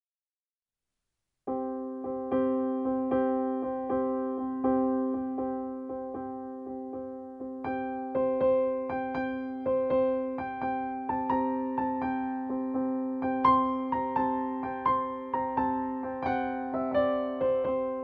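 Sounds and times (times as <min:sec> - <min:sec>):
piano music: 0:01.5 - 0:18.0.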